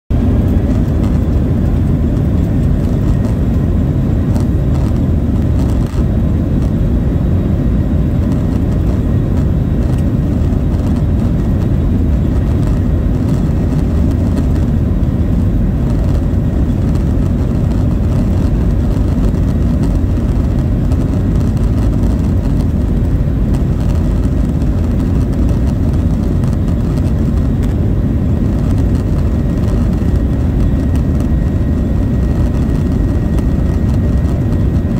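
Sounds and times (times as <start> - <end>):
faint engine whine: 0.1 - 34.9
jet cabin rumble: 0.1 - 34.9.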